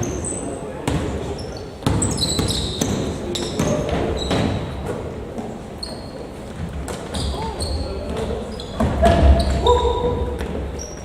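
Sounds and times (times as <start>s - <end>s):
faint voices in echoing hall: 0.0s - 11.0s
shoes squeaking on floor: 0.0s - 11.0s
basketball bouncing on court: 0.8s - 4.8s, 5.4s - 10.6s.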